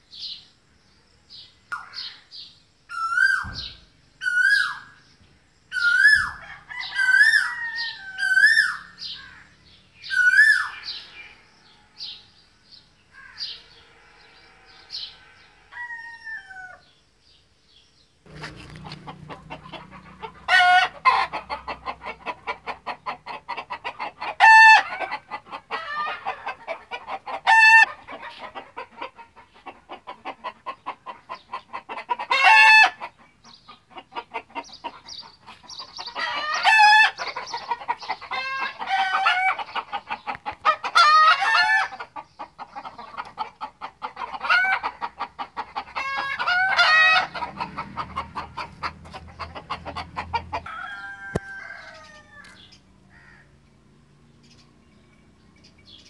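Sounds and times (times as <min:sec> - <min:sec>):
birds drawn-out calls: 0:01.6 - 0:17.0, 0:18.2 - 0:56.0.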